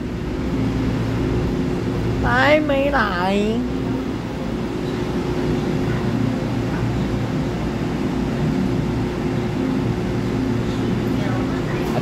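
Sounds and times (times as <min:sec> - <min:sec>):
electric train interior hum: 0:00.0 - 0:12.0
train rumble: 0:00.0 - 0:12.0.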